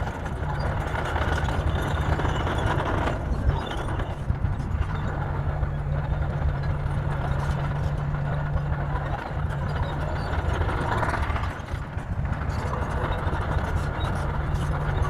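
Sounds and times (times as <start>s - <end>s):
heavy diesel machinery engine: 0.0s - 15.0s.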